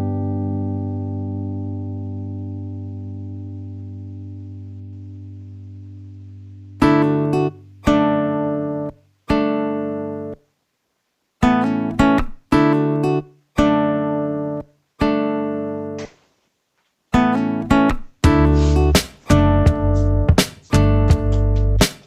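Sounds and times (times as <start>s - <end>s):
acoustic guitar chords: 0.0s - 10.6s, 11.4s - 16.2s, 17.1s - 22.0s.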